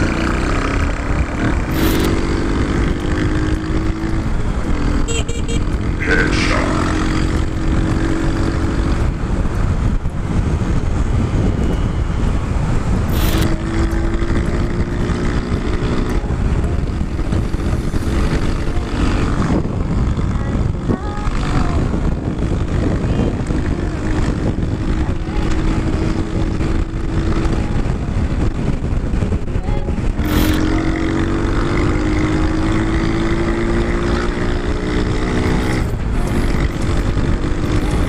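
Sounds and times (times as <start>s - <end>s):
scooter engine drone: 0.0s - 38.0s
wind buffeting microphone: 0.0s - 38.0s.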